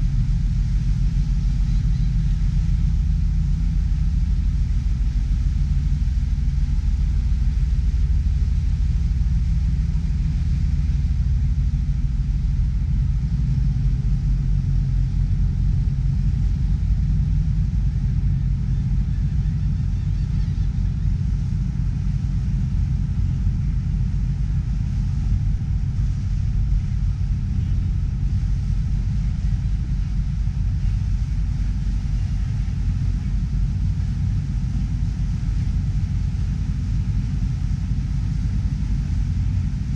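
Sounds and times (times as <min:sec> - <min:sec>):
boat engine rumble: 0:00.0 - 0:39.9.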